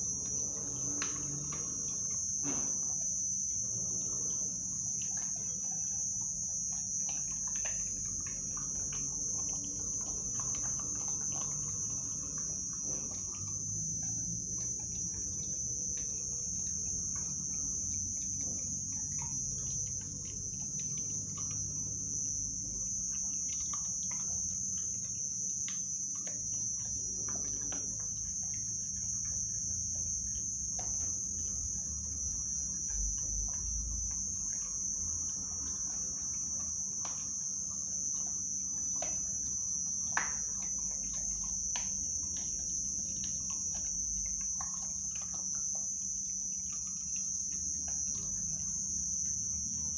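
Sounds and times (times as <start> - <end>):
crickets chirping: 0.0 - 49.9
puppy chewing raw meat: 0.0 - 49.9.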